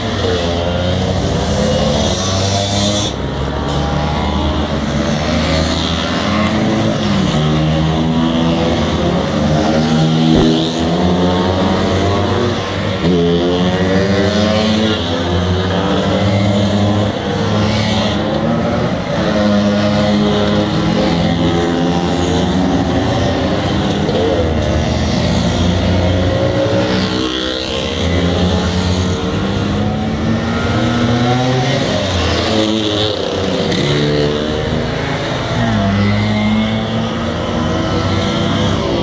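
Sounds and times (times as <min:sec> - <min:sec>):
motor scooters accelerating: 0:00.0 - 0:39.0.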